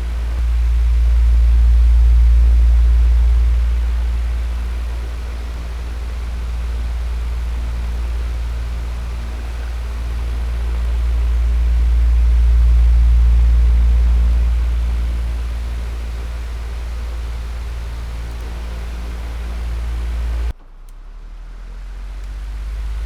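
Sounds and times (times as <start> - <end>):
electric fan whooshing: 0.0 - 20.5.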